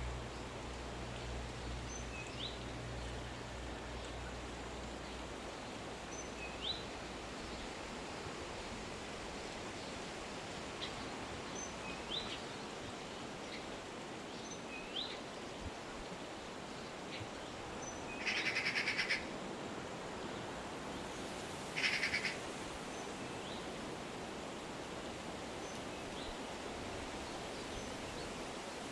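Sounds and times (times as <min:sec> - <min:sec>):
background hiss: 0:00.0 - 0:28.9.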